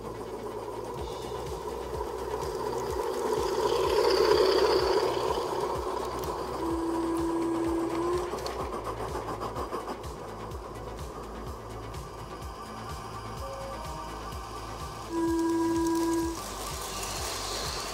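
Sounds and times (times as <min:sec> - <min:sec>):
model train wheels rumbling: 0:00.0 - 0:17.9
steady tone: 0:00.0 - 0:17.9
train clicking on track: 0:00.0 - 0:17.9.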